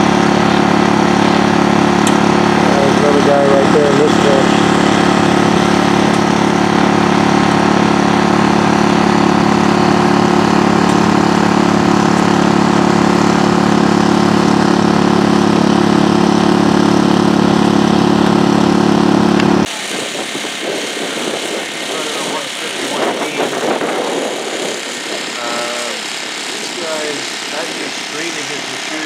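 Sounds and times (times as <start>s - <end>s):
machine engine running steadily: 0.0s - 29.0s.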